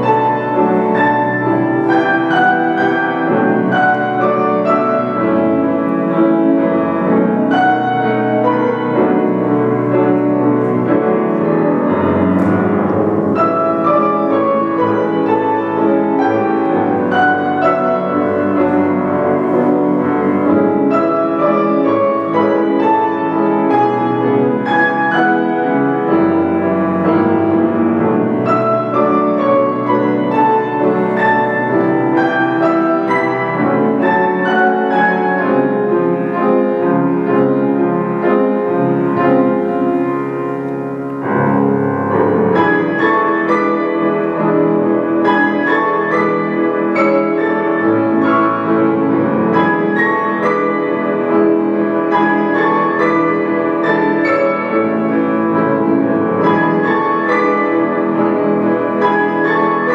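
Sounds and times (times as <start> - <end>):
piano duet: 0.0 - 59.9.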